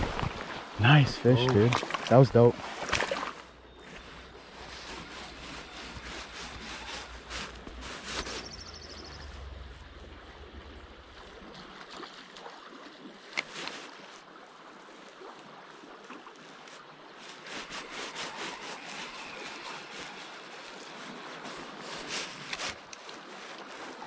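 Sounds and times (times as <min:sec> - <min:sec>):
river flowing: 0:00.0 - 0:24.0.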